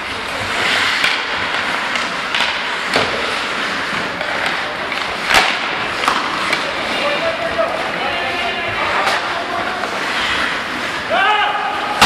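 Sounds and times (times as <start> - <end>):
hockey sticks and puck clacking: 0.0 - 12.0
skate blades scraping ice: 0.0 - 12.0.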